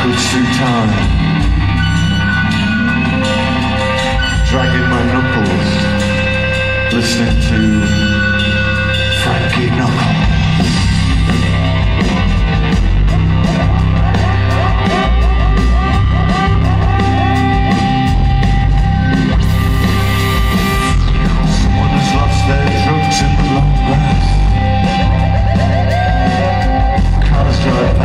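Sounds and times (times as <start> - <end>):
drums: 0.0 - 28.0
electric guitar: 0.0 - 28.0
sliding guitar notes: 0.0 - 28.0
steady bass: 0.0 - 28.0.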